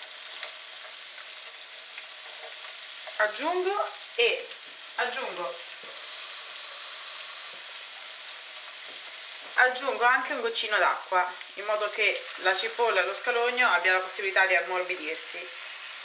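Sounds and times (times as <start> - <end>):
fish sizzling in a frying pan: 0.0 - 16.0.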